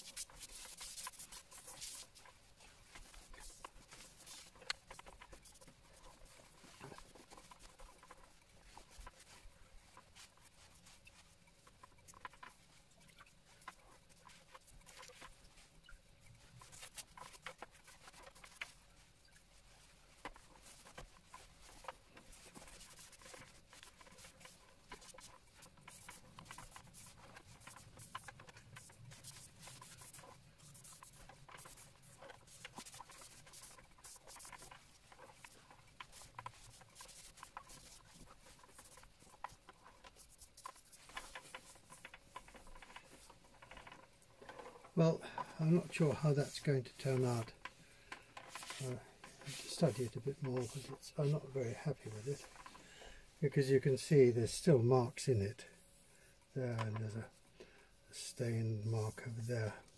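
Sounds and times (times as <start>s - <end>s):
hand rubbing on slate: 0.0s - 54.7s, 58.1s - 59.9s.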